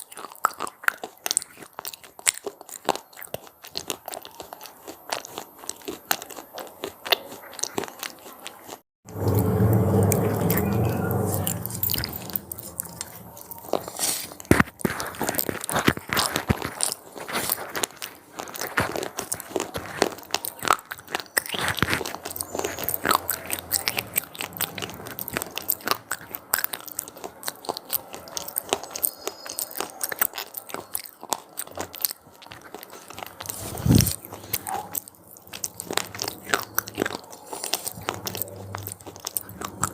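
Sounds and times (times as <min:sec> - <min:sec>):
crunchy snacks being chewed: 0:00.0 - 0:39.9.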